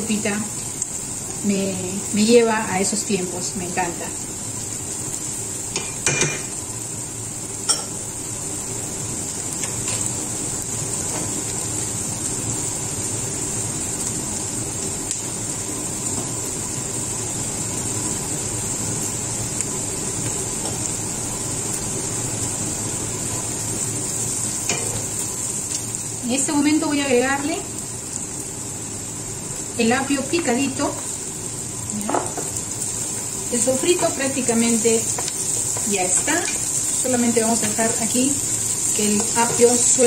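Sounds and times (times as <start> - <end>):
food sizzling in a pot: 0.0 - 40.0.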